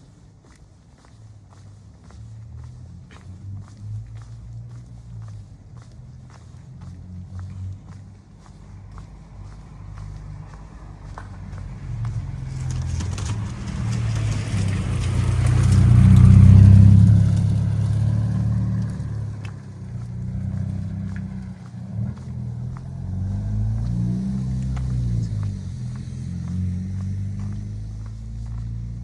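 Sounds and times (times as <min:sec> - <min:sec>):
approaching engine: 0:00.0 - 0:29.0
car passing on wet road: 0:02.2 - 0:29.0.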